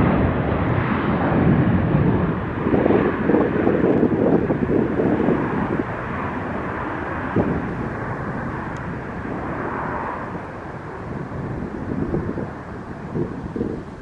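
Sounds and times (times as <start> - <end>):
jet engines rushing: 0.0 - 14.0
wind buffeting microphone: 0.0 - 14.0.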